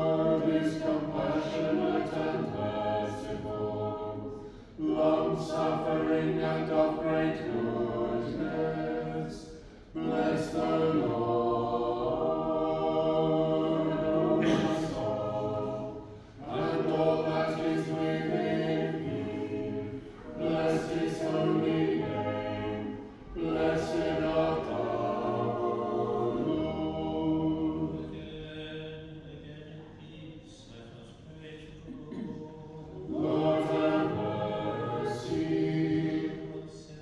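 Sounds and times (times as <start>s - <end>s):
unaccompanied choir chanting: 0.0s - 30.0s, 30.7s - 37.0s.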